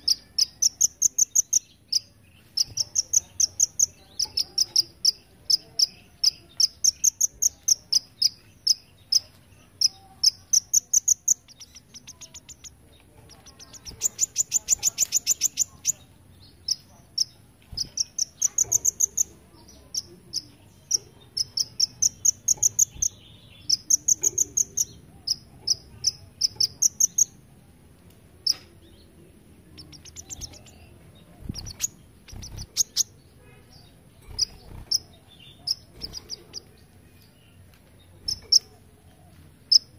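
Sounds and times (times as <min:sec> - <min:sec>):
bird singing high chirps and trills: 0:00.0 - 0:27.6, 0:28.4 - 0:39.9.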